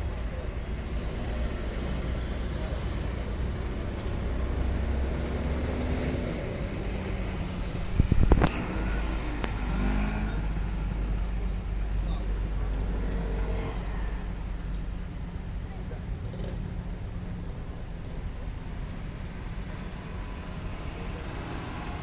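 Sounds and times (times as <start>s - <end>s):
vehicles driving by rumbling: 0.0s - 22.0s.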